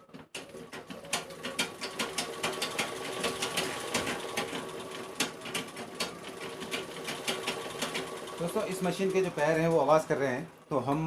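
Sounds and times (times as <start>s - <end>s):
sewing machine running: 0.0s - 10.9s.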